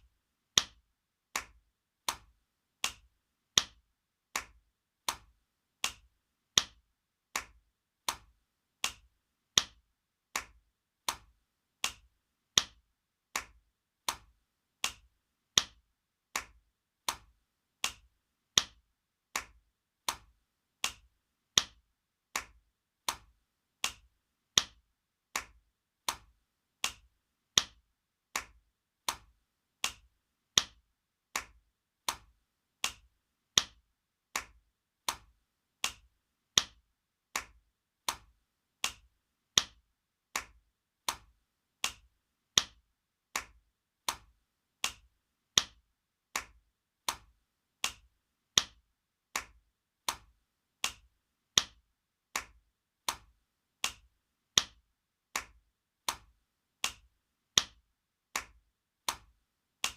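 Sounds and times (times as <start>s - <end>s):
hand slapping skin: 0.6s - 54.8s, 55.4s - 59.9s.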